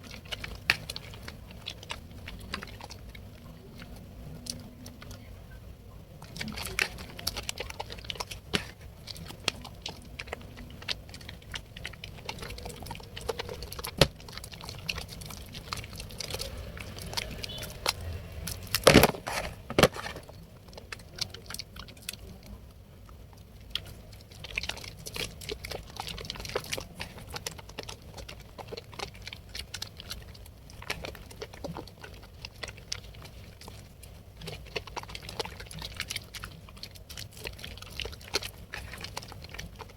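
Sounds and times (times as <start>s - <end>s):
soap squelches: 0.0s - 39.9s
hands lathering wet soap: 6.2s - 39.9s.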